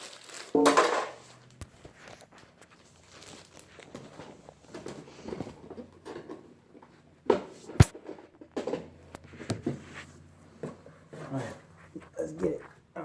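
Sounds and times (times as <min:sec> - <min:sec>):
knocks and rustles of handling: 0:00.0 - 0:12.9.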